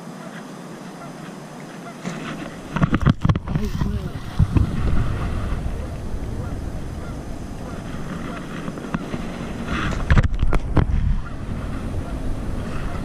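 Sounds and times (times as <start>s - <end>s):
wind buffeting microphone: 2.2s - 13.0s.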